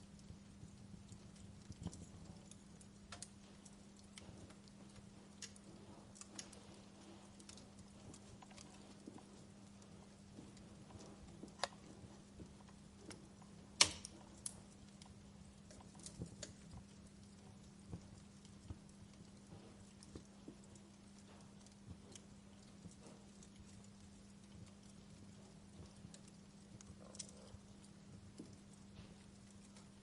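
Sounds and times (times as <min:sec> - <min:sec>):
faint low hum: 0:00.0 - 0:30.0
wood fire crackling: 0:00.0 - 0:30.0.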